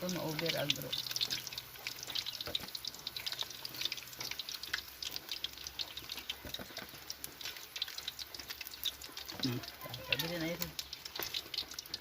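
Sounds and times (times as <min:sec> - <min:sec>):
meat deep-frying in oil: 0:00.0 - 0:12.0.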